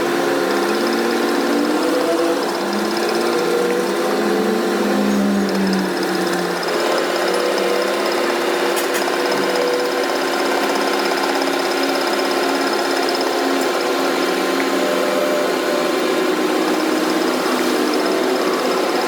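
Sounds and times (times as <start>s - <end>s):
workshop machine humming: 0.0s - 19.0s.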